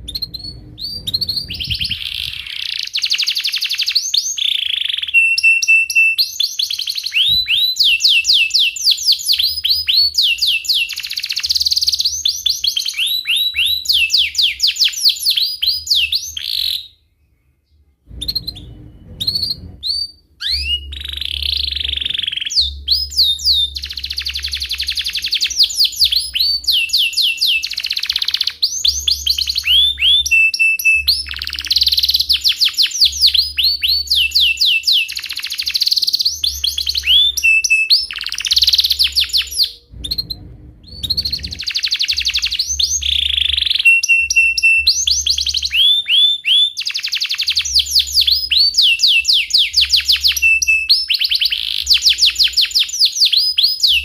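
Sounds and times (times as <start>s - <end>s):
canary singing chirps and trills: 0.0s - 54.0s.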